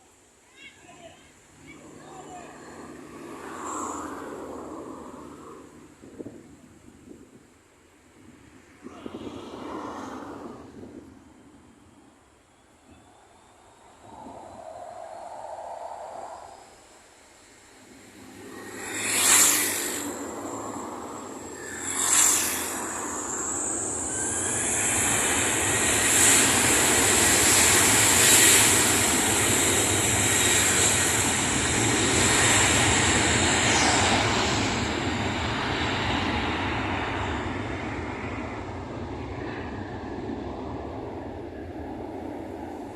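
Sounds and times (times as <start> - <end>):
jet engine fan whine: 0.0 - 42.9
rushing jet noise: 0.9 - 11.5, 13.1 - 42.9.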